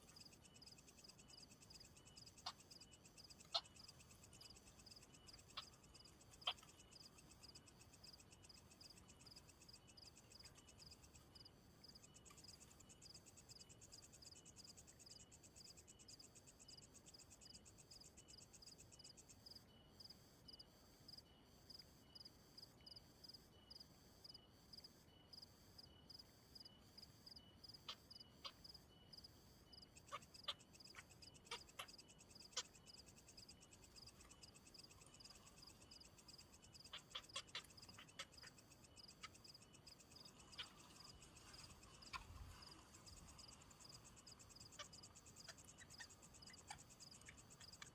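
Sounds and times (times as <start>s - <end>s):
insects and frogs calling: 0.0s - 47.9s.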